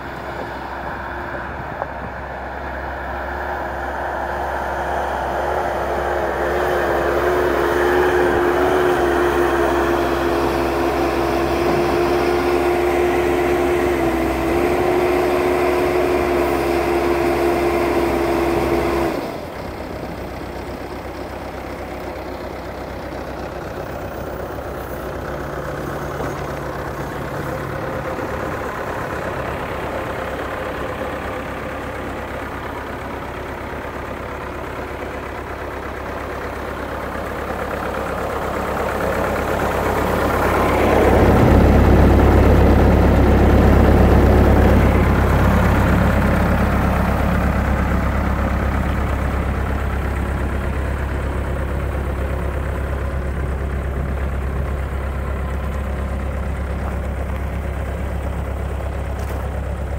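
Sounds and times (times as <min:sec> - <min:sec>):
diesel engine running: 0:00.0 - 0:59.9
engine whine: 0:00.0 - 0:59.9.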